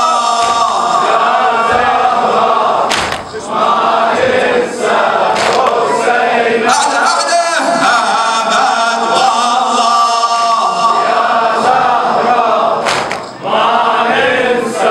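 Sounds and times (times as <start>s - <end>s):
men chanting a lament: 0.0s - 14.9s.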